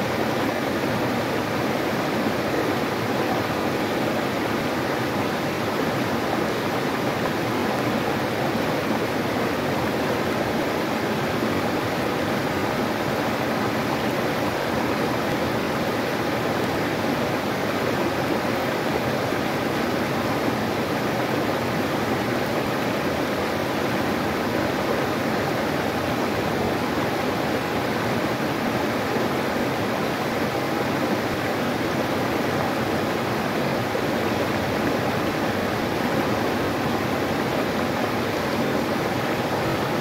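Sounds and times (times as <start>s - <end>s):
river water rushing over rocks: 0.0s - 40.0s.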